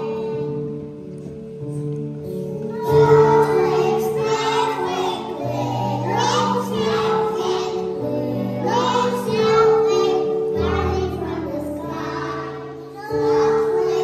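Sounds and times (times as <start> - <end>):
children singing: 0.0 - 0.8, 2.6 - 14.0
instrumental accompaniment: 0.0 - 14.0.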